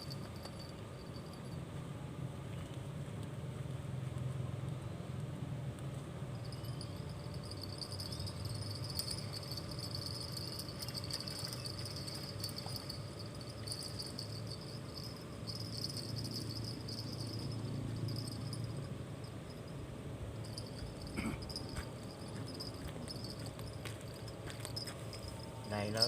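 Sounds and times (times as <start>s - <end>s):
insects chirring: 0.0s - 1.6s, 6.3s - 26.0s
low steady hum: 0.0s - 26.0s.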